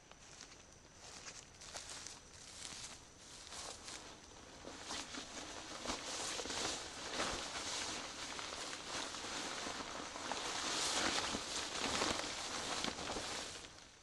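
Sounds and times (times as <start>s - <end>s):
tarp rustling and crinkling: 0.2s - 14.0s.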